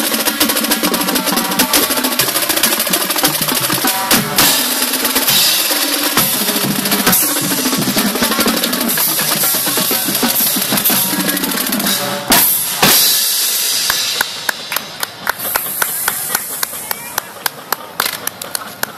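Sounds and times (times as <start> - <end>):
drumline playing cadence: 0.0 - 18.9.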